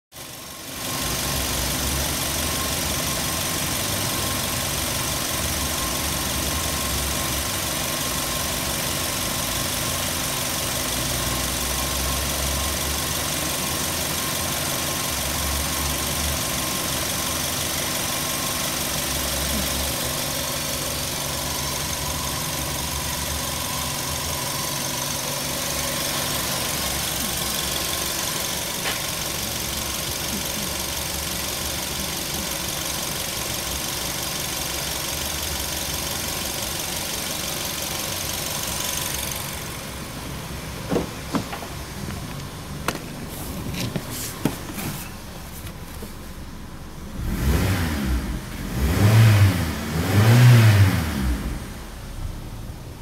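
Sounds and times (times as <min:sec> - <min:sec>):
car engine idling: 0:00.2 - 0:53.0.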